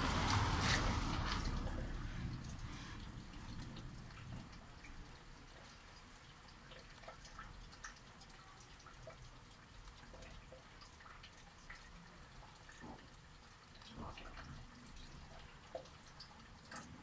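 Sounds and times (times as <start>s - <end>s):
rainwater dripping: 0.0s - 17.0s.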